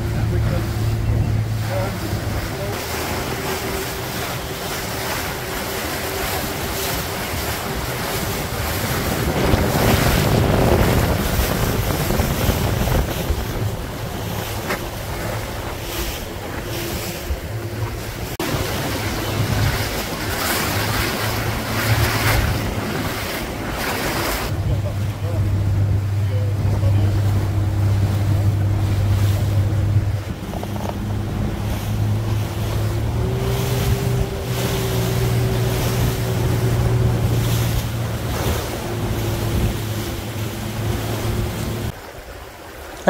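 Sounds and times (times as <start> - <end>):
wind buffeting microphone: 0.0 - 42.0
motorboat engine hum: 0.0 - 43.0
water rushing and splashing: 0.0 - 43.0.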